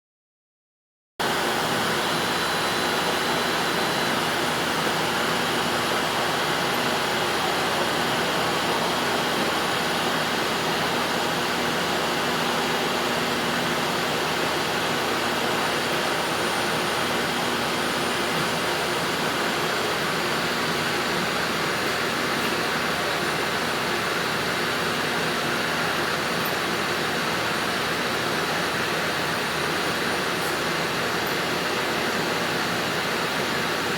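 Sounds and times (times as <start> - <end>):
machinery running: 1.2 - 33.9.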